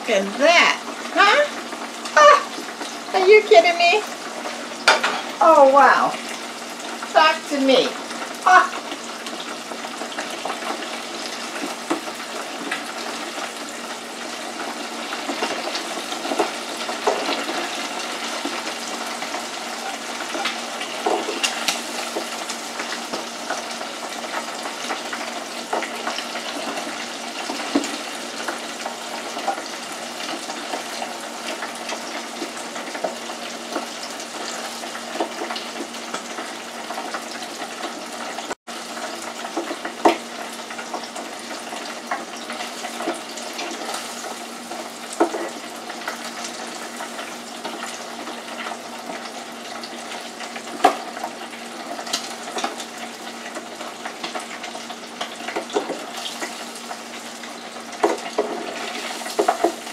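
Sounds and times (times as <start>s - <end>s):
hot oil sizzling in deep fryer: 0.0s - 59.9s.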